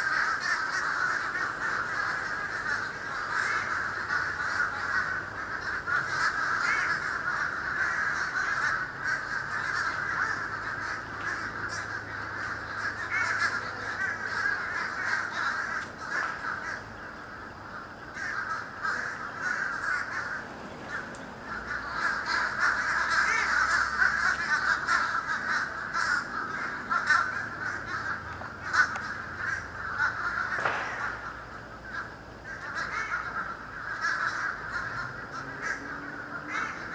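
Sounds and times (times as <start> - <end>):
flock of birds calling: 0.0 - 36.9.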